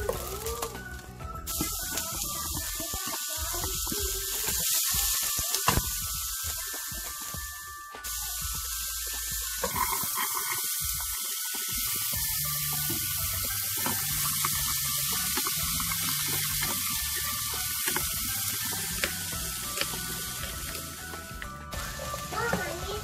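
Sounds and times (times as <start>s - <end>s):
onion and potato sizzling in oil: 0.0s - 23.0s.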